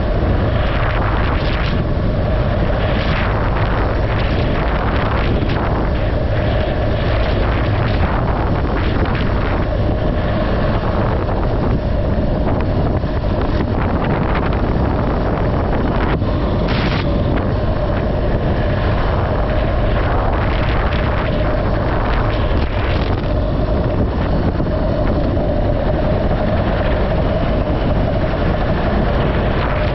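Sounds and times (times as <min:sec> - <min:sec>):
vehicle engine drone: 0:00.0 - 0:29.9
wind buffeting microphone: 0:00.0 - 0:29.9.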